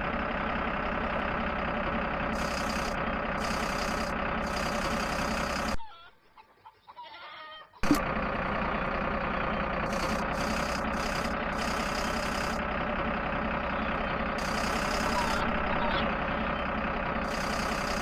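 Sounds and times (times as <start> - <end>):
tractor engine running: 0.0 - 5.9, 7.8 - 18.0.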